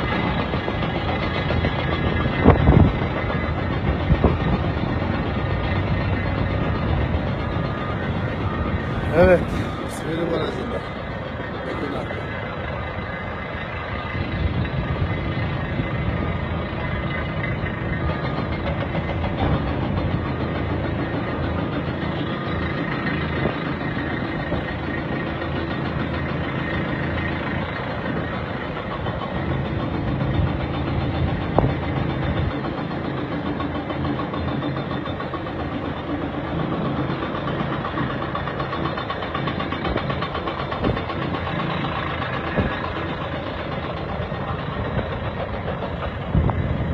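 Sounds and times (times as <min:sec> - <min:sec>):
heavy machinery diesel engine: 0:00.0 - 0:46.9.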